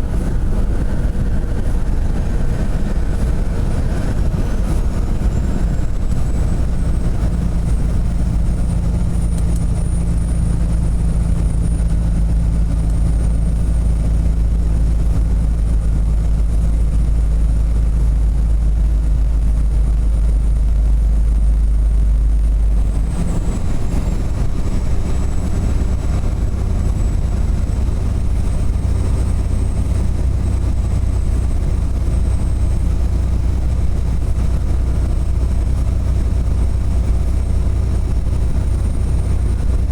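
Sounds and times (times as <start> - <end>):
road noise: 0.0 - 39.9
truck diesel engine drone: 0.0 - 39.9.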